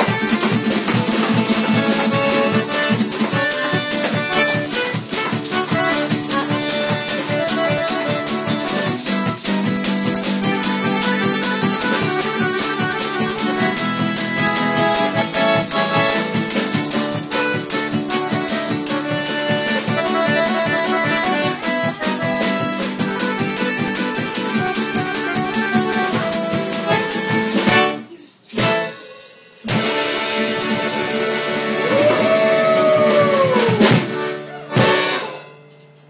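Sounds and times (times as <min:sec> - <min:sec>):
jingling tambourine: 0:00.0 - 0:36.0.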